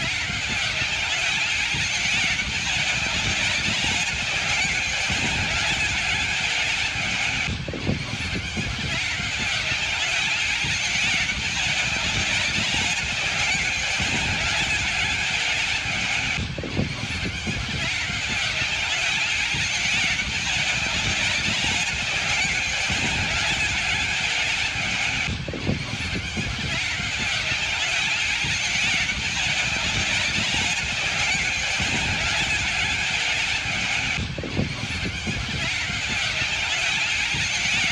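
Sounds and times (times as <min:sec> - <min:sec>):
flock screeching calls: 0:00.0 - 0:37.9.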